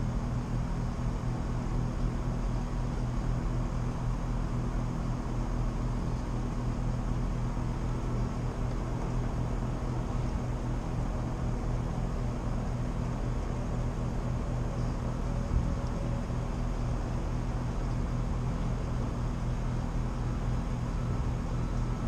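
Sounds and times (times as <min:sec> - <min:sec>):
condenser fan humming: 0:00.0 - 0:22.0.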